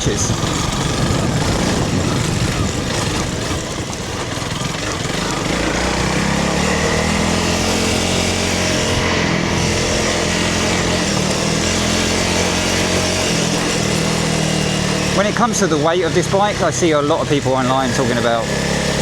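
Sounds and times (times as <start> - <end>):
motorcycle engine running: 0.0 - 19.0
wind and tyre noise: 0.0 - 19.0.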